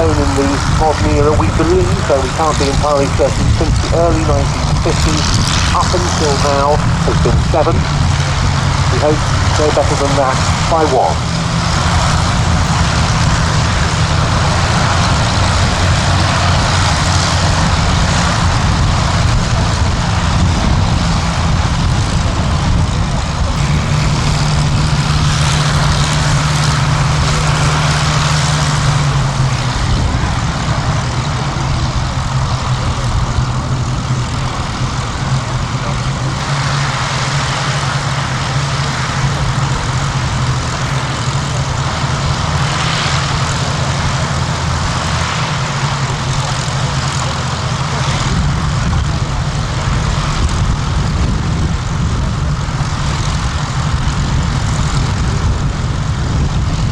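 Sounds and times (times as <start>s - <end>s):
propeller engines droning: 0.0s - 56.9s.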